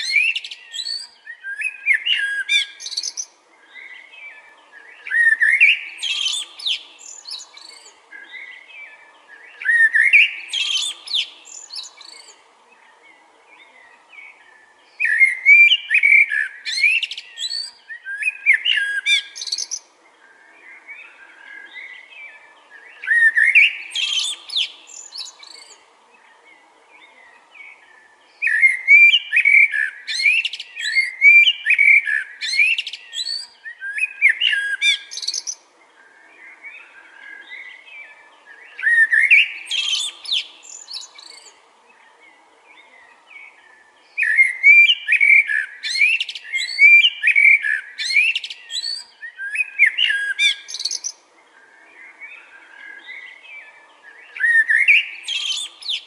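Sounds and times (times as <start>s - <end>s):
blackbird singing: 0.0s - 56.0s
faint bird chirping: 0.0s - 56.0s.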